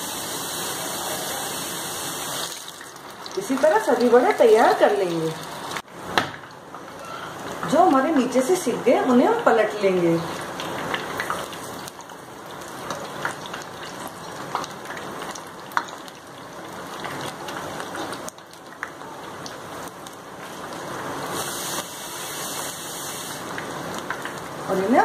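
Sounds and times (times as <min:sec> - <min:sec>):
fritters deep-frying in oil: 0:00.0 - 0:25.0.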